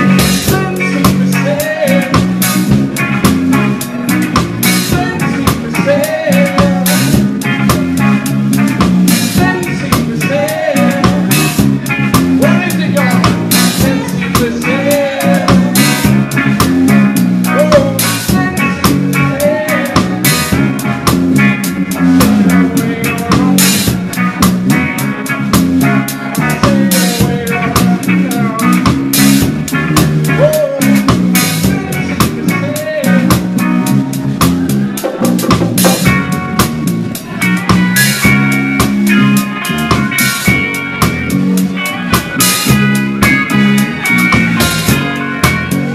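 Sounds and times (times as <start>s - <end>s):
drums and cymbals close: 0.0s - 45.9s
reggae band playing live: 0.0s - 45.9s.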